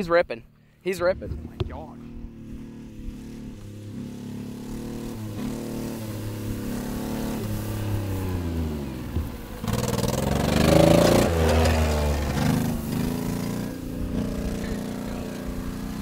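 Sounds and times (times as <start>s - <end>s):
small truck engine revving: 0.4s - 16.0s.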